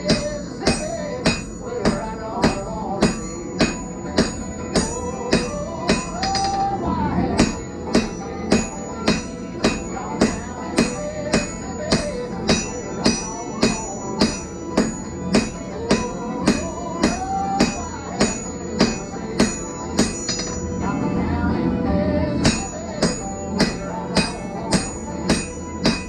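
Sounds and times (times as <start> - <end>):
hammer striking steel on anvil: 0.0 - 6.8, 7.4 - 20.7, 22.4 - 26.0
background music: 0.0 - 26.0.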